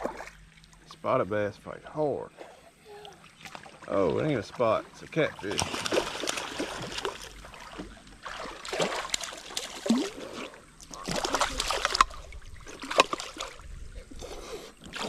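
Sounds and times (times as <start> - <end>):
creek water splashing: 0.0 - 1.0, 2.3 - 15.0.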